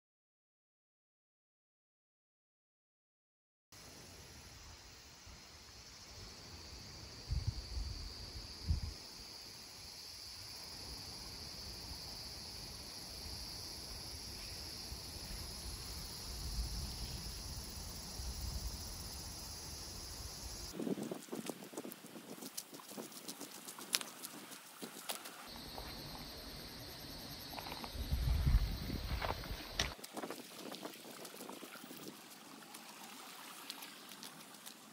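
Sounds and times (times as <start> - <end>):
insects chirring: 3.8 - 34.9.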